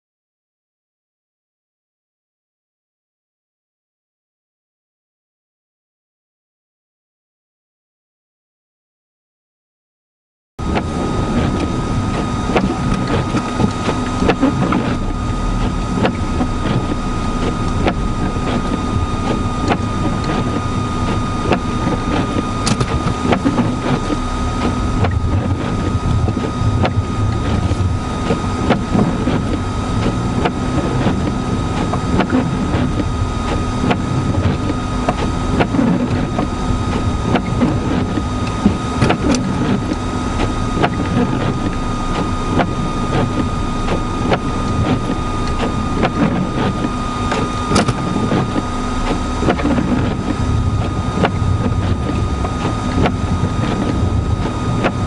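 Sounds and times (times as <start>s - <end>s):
car engine running: 10.6s - 55.0s
high whine over low rumble: 10.6s - 55.0s.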